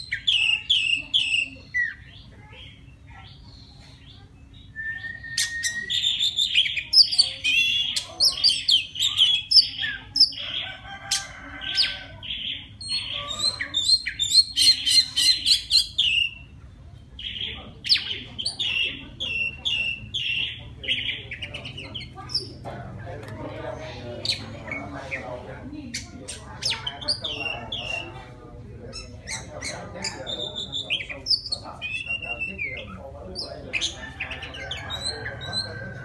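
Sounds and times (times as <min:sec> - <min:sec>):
bird singing varied song: 0:00.0 - 0:36.0.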